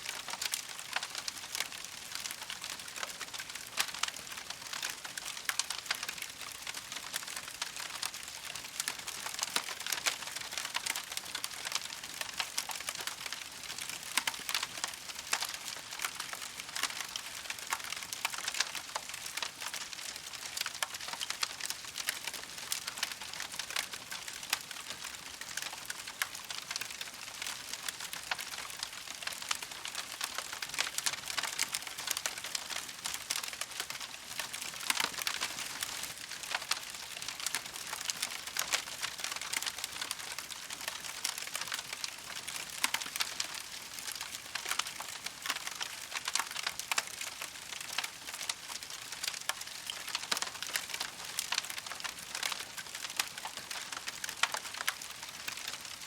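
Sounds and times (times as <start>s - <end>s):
campfire crackling: 0.2s - 56.0s.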